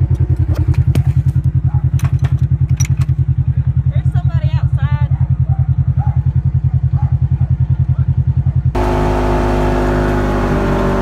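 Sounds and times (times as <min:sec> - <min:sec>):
twin engine throbbing and droning: 0:00.0 - 0:11.0.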